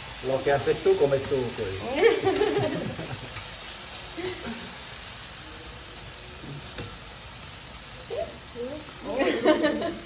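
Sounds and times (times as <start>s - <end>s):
food frying in oil: 0.0s - 10.0s.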